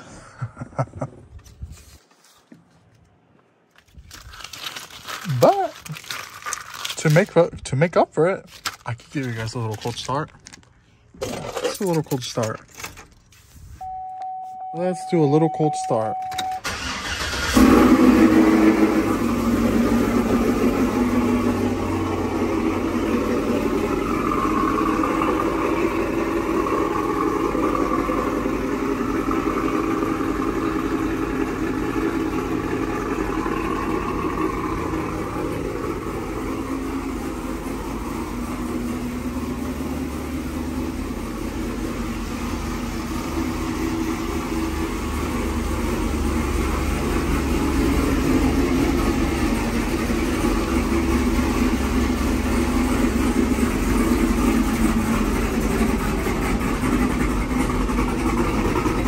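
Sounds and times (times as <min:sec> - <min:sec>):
engine cranking and idling: 0:08.5 - 0:13.3, 0:15.3 - 0:59.0.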